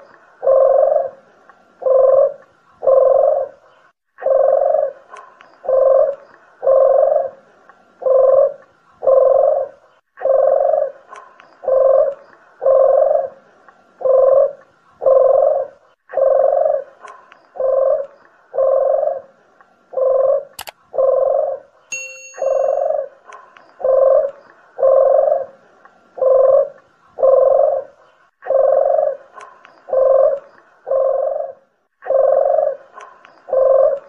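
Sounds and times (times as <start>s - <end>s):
doves cooing: 0.0s - 21.8s, 22.4s - 34.0s.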